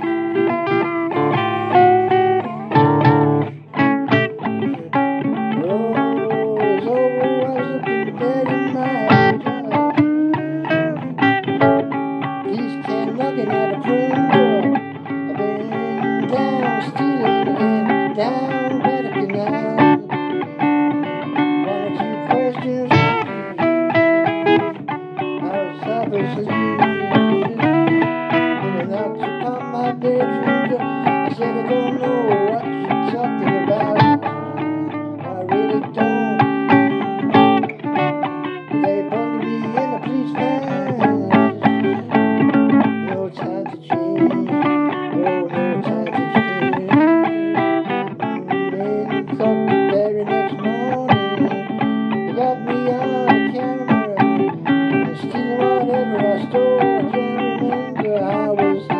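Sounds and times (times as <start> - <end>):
blues electric guitar: 0.0 - 58.9.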